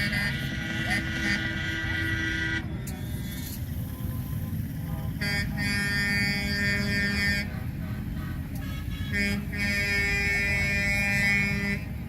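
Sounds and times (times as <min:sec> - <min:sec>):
truck air horn blasts: 0:00.0 - 0:02.8, 0:04.8 - 0:12.0
truck engines passing: 0:00.0 - 0:12.0.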